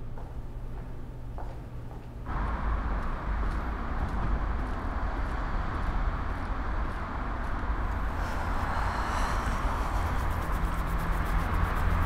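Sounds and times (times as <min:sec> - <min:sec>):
distant traffic hiss and rumble: 0:02.2 - 0:12.0.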